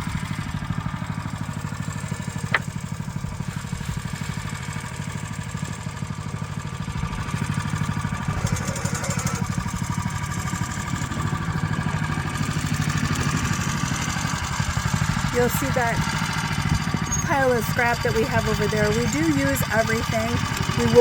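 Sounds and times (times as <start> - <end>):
small gasoline engine running: 0.0 - 21.0.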